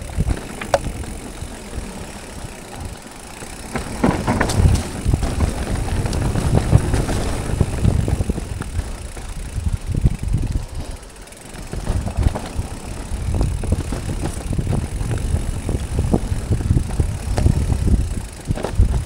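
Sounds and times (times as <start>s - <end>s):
bike knocking and rattling: 0.0s - 19.0s
bike tyres rumbling over roots: 0.0s - 19.0s.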